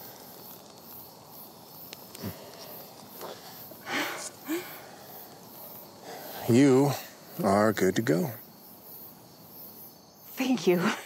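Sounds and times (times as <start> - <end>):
woodland ambience: 0.0 - 11.0.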